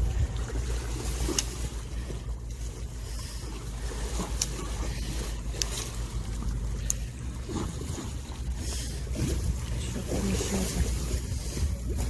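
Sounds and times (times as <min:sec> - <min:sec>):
seawater washing against concrete: 0:00.0 - 0:12.0
wind rumbling on microphone: 0:00.0 - 0:12.0.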